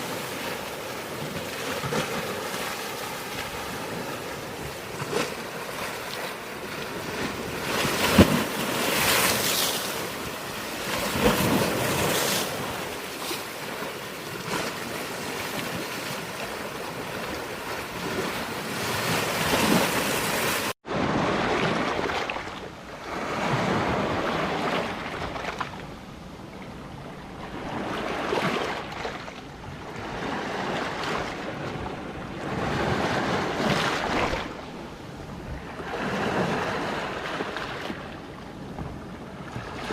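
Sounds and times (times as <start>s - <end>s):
sea waves breaking on rocks: 0.0s - 25.8s, 27.5s - 29.4s, 30.0s - 34.6s, 35.7s - 38.0s.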